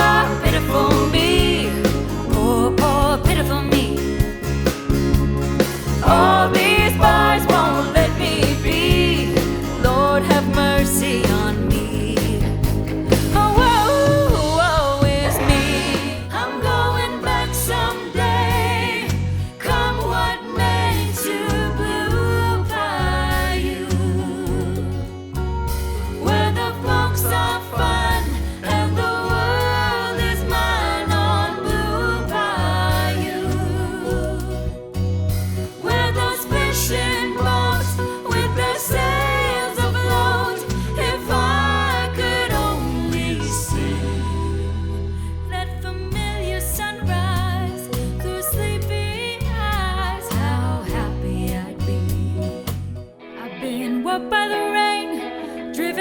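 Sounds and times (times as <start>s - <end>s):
woman singing lead: 0.0s - 4.4s, 5.7s - 34.9s, 35.7s - 56.0s
band playing bass and drums: 0.0s - 45.2s, 46.1s - 53.0s.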